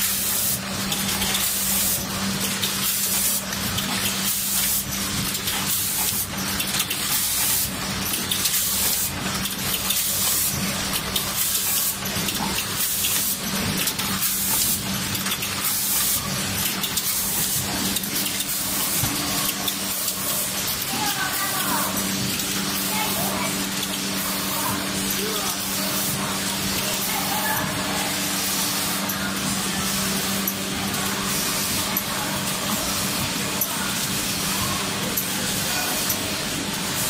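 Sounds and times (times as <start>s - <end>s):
packing machine humming: 0.0s - 37.0s.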